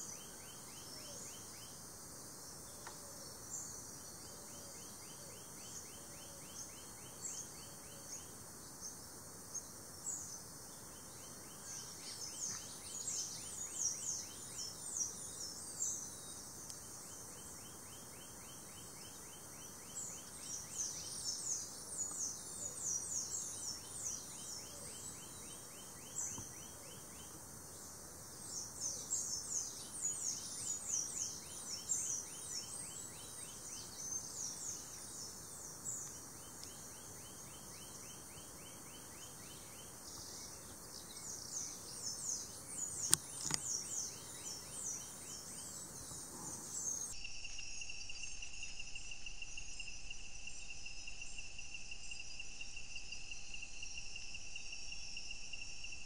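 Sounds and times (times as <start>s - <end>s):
pulsing insect trill: 3.5s - 56.0s.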